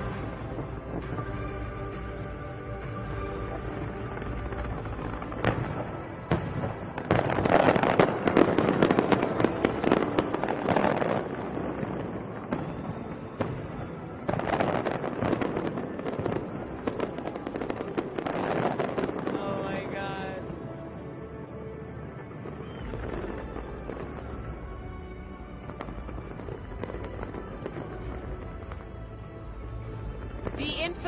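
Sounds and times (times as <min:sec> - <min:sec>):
fireworks cracking volleys: 0:00.0 - 0:21.1, 0:21.9 - 0:31.0.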